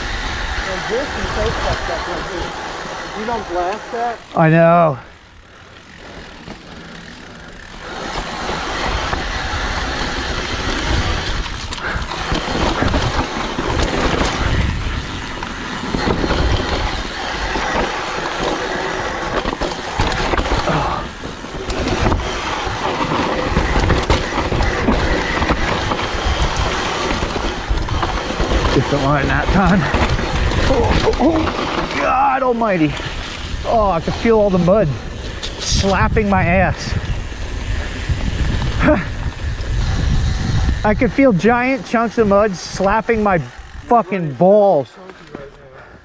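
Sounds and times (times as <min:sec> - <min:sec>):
bike chain and frame rattling: 0:00.0 - 0:46.0
bike tyres rushing over dirt: 0:00.0 - 0:46.0.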